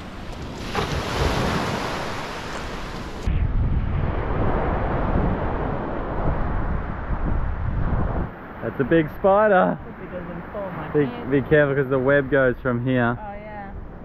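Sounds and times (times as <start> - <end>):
surf washing on beach: 0.0 - 12.3
wind buffeting microphone: 0.0 - 14.0.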